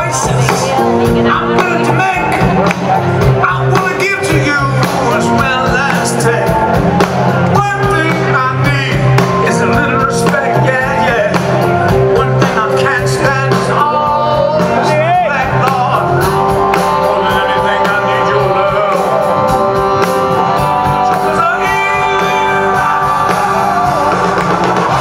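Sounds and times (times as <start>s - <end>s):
male vocalist singing: 0.0s - 20.0s, 20.6s - 24.2s
bass guitar: 0.0s - 25.0s
drum beat: 0.0s - 25.0s
guitar: 0.0s - 25.0s.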